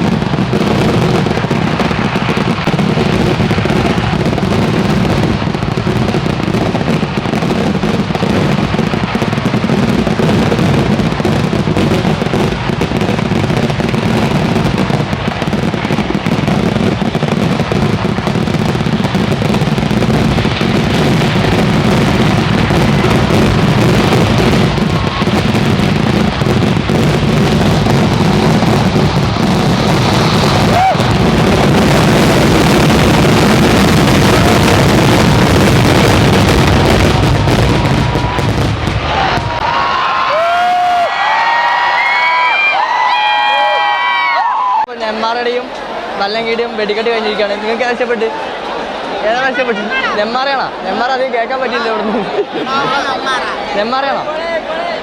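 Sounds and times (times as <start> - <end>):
fireworks barrage: 0.0 - 55.0.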